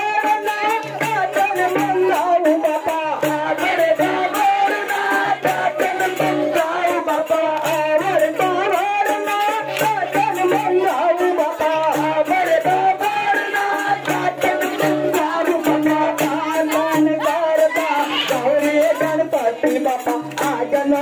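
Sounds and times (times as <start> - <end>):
person singing: 0.0 - 21.0
steady percussion: 0.0 - 21.0.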